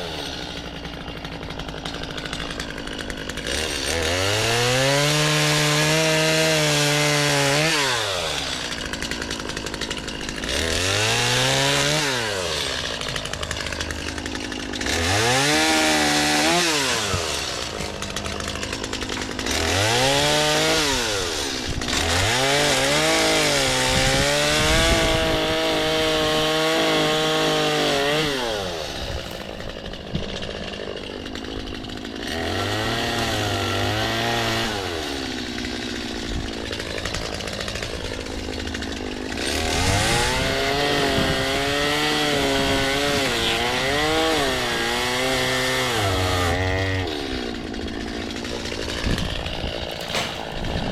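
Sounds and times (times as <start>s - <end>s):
chainsaw revving: 0.0s - 50.9s.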